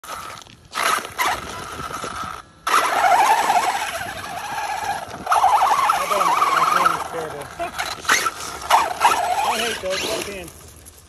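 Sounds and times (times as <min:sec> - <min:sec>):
electric motor whining: 0:00.0 - 0:10.5
tyres scrabbling over stones: 0:00.0 - 0:11.0.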